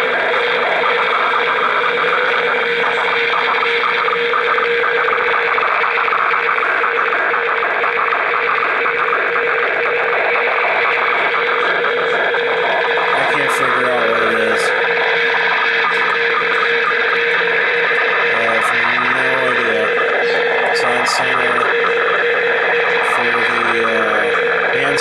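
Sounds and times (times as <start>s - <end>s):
constant mid-pitched tone: 0.0s - 25.0s
shortwave radio hiss: 0.0s - 25.0s.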